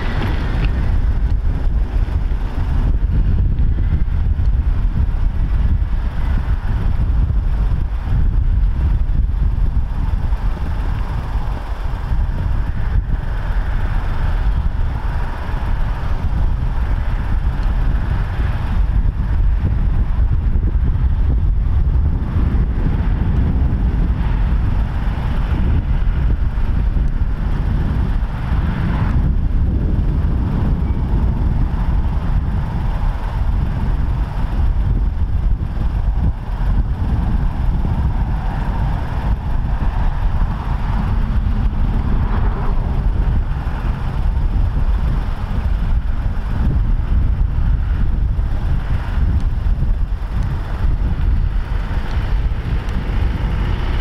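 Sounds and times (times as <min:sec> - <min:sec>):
diesel vehicles rumbling past: 0:00.0 - 0:54.0.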